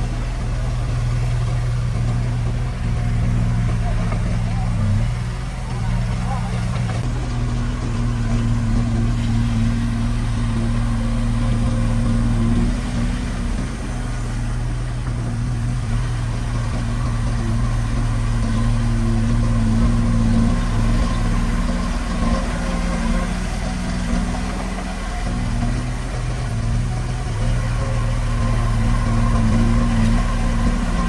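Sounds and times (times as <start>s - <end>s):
heavy machine diesel engine running: 0.0s - 31.0s.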